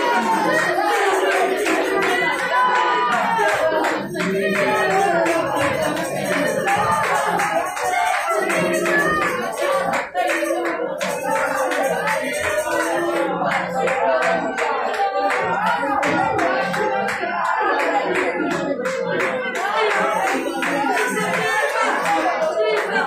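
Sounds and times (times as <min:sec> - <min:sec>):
church praise music: 0:00.0 - 0:23.0
hands clapping: 0:00.0 - 0:23.0
voices singing: 0:00.0 - 0:23.0.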